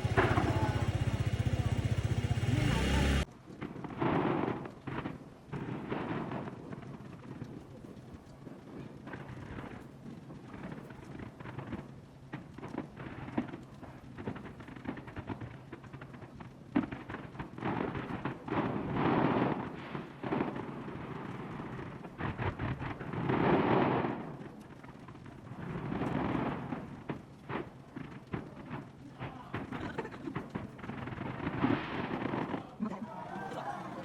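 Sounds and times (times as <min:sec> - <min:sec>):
fireworks crackling and popping: 0:00.0 - 0:34.0
rumbling firework bursts: 0:00.0 - 0:34.0.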